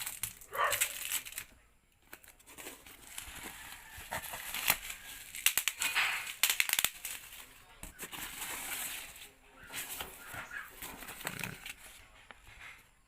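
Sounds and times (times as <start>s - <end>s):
plastic packaging crinkling and tearing: 0.0s - 12.8s
clicks and rustles: 0.0s - 13.0s.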